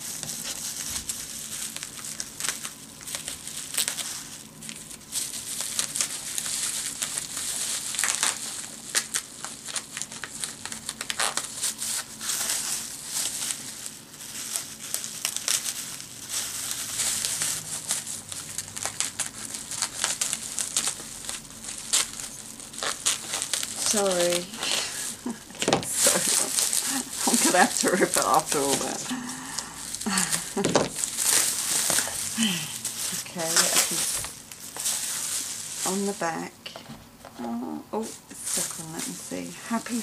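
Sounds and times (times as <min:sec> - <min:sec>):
bubble wrap crinkling and snapping: 0:00.0 - 0:40.0.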